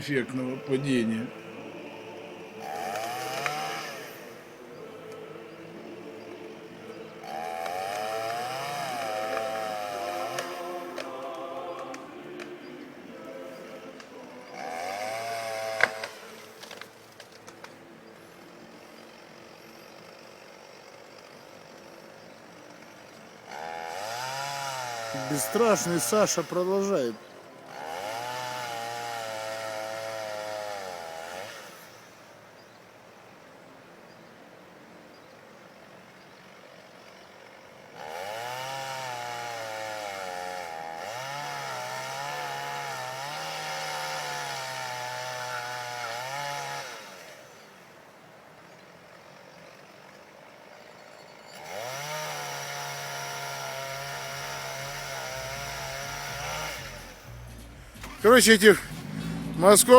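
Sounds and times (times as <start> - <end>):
chainsaw cutting wood: 1.4 - 5.3, 6.4 - 32.4, 36.9 - 50.8, 51.4 - 59.9.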